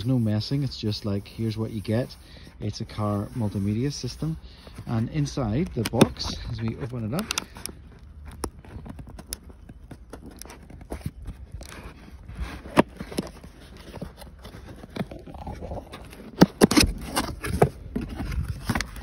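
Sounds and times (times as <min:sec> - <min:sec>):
cardboard flaps scraping and rustling: 0:00.0 - 0:19.0.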